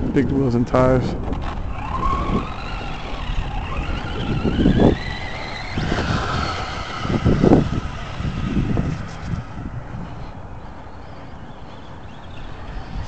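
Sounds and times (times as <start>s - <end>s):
electric motor whining: 1.0s - 13.0s.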